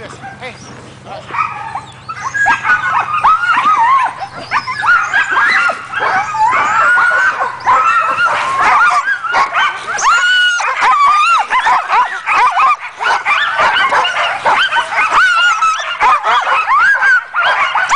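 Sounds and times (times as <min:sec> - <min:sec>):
sled dogs yelping and barking: 0:00.0 - 0:17.9.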